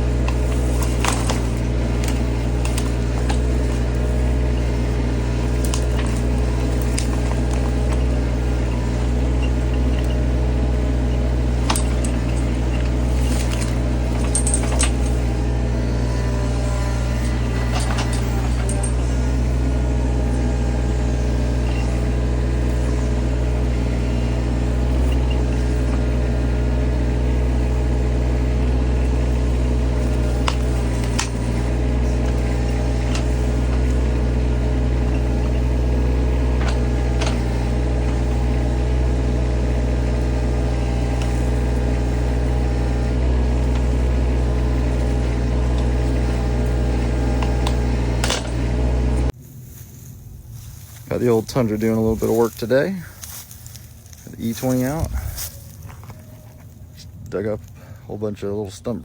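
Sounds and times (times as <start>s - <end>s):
machine knocks and clanks: 0.0s - 49.3s
excavator diesel engine running: 0.0s - 59.0s.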